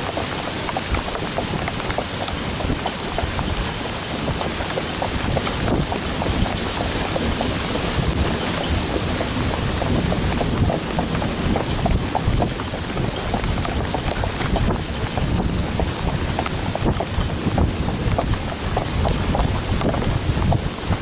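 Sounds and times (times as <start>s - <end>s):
horse hooves on wet dirt: 0.0s - 21.0s
wind and rain on microphone: 0.0s - 21.0s.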